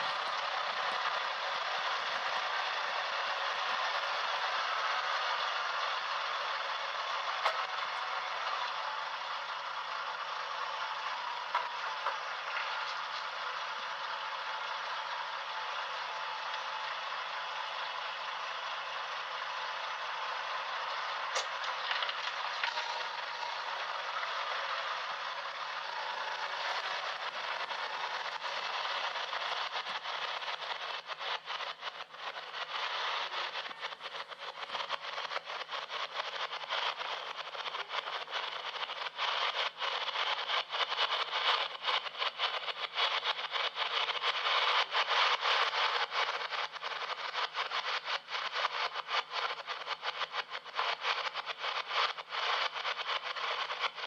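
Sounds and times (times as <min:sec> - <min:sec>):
steady rushing road noise: 0:00.0 - 0:54.0.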